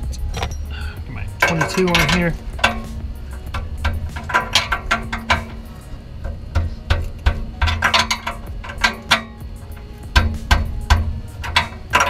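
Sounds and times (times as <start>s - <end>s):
wrench clicking and clinking: 1.3s - 12.0s.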